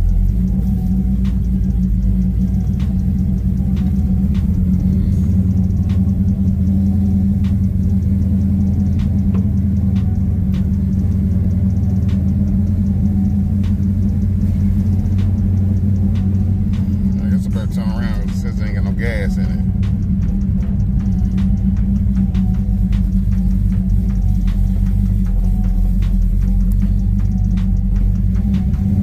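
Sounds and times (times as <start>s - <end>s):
engine low rumble: 0.0s - 29.0s
turn signal clicking: 0.0s - 29.0s.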